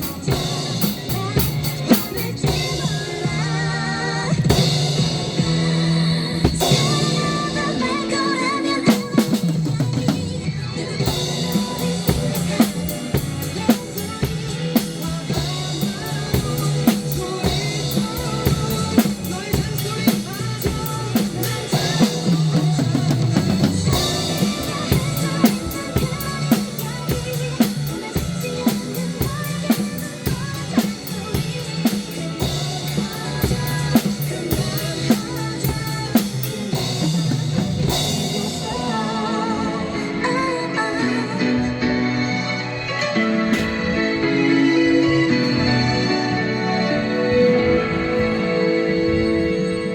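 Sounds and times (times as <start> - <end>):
drum kit steady beat: 0.0 - 40.5, 43.1 - 48.1
recorded song: 0.0 - 49.9.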